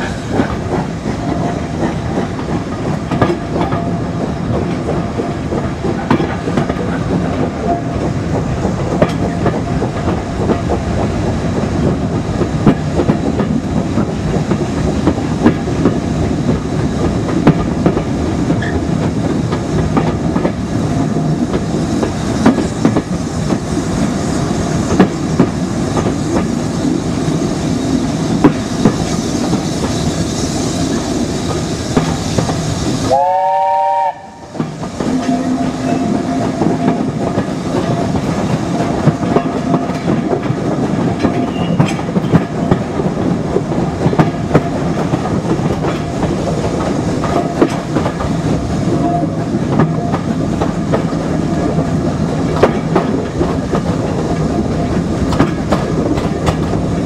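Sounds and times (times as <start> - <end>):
train wheels clicking over rail joints: 0.0 - 57.0.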